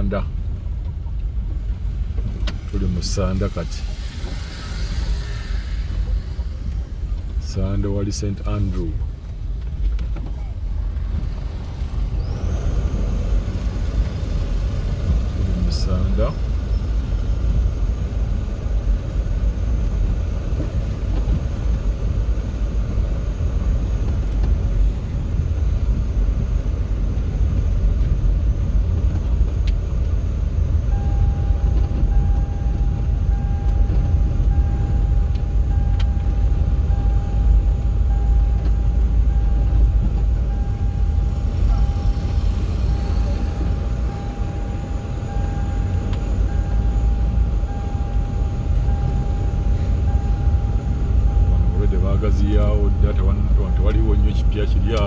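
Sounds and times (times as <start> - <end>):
vehicle driving rumble: 0.0 - 55.0.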